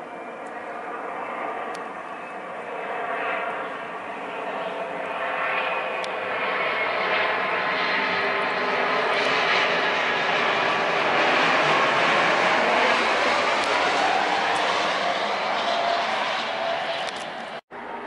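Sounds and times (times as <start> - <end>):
jet engines whining roar: 0.0 - 18.0.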